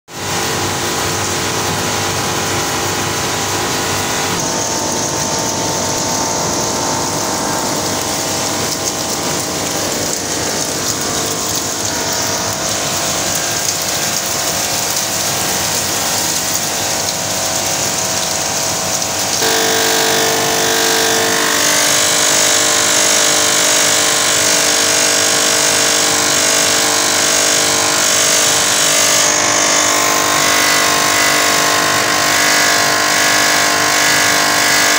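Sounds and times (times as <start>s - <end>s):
motors and conveyors running: 0.2s - 34.9s
constant hum of steady tones: 4.3s - 33.1s.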